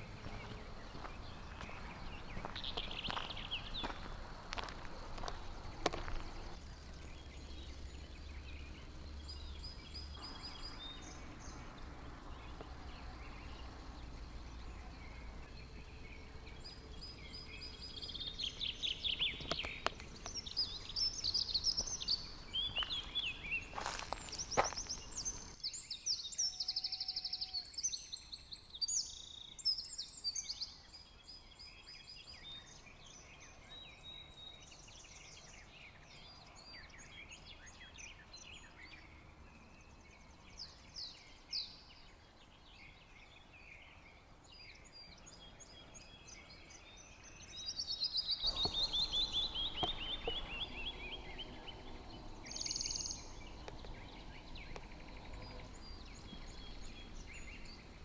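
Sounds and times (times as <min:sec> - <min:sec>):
bird song falling in pitch: 0:00.0 - 0:04.7, 0:05.3 - 0:58.0
rush of outdoor noise: 0:00.0 - 0:58.0
songbirds chirping and singing: 0:00.0 - 0:58.0.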